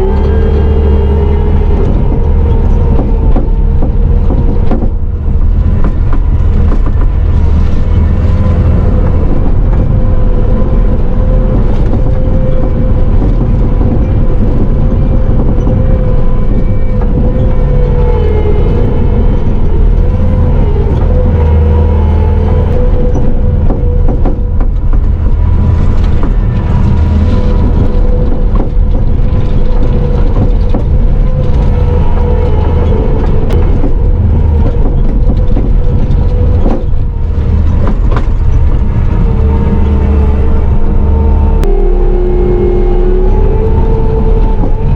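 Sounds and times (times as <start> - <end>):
diesel engine running: 0.0 - 44.9
steady whine: 0.0 - 44.9.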